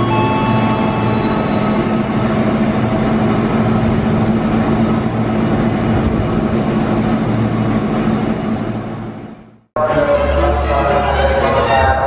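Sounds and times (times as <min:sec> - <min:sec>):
locomotive engine humming: 0:00.0 - 0:12.0.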